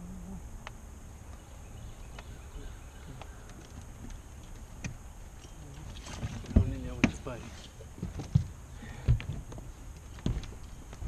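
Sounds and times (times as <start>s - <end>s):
low open-air rumble: 0.0s - 11.0s.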